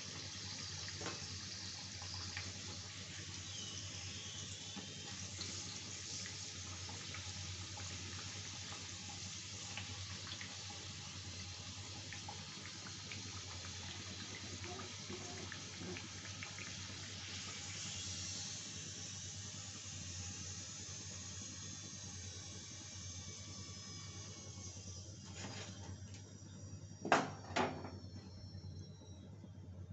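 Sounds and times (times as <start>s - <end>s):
food deep-frying in hot oil: 0.0s - 29.5s.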